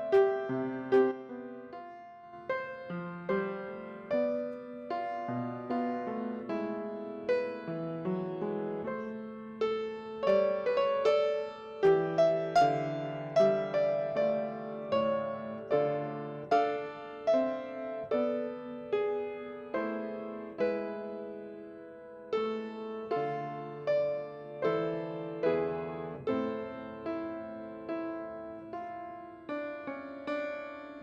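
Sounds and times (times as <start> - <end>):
slow solo piano piece: 0.0 - 31.0.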